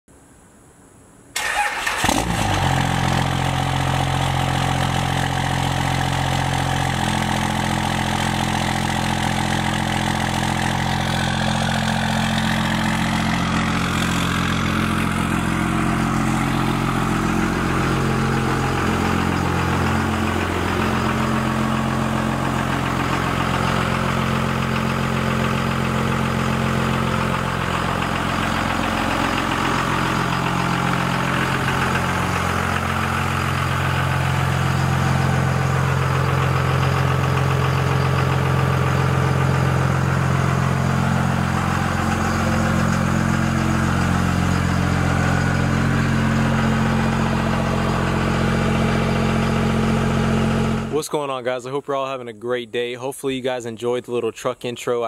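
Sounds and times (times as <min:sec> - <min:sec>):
diesel truck engine starting and idling: 0:01.4 - 0:55.0.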